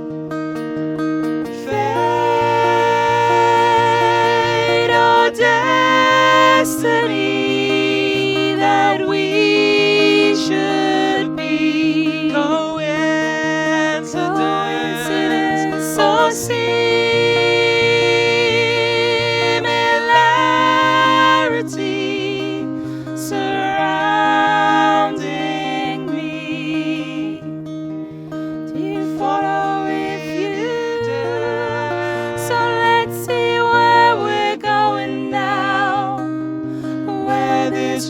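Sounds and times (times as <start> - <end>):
plucked acoustic guitar: 0.0 - 38.0
voices singing in harmony: 1.5 - 27.8, 28.6 - 38.0.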